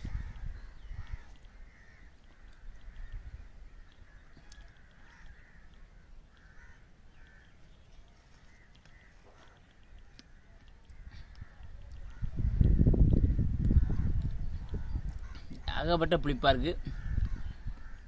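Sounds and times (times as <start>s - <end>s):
birds making harsh calls: 0.0s - 18.0s.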